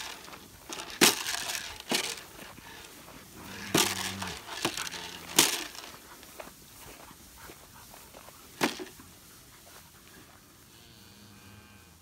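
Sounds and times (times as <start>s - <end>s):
footsteps crunching through grass: 0.0s - 12.0s.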